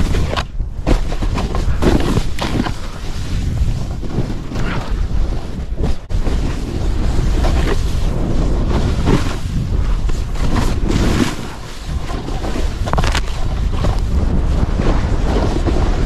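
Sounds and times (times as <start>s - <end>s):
snowboard scraping through snow: 0.0s - 16.0s
wind rushing over microphone: 0.0s - 16.0s.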